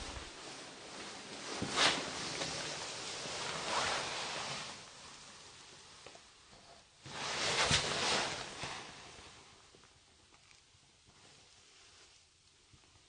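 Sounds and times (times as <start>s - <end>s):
soft rustling noise: 0.0s - 13.0s.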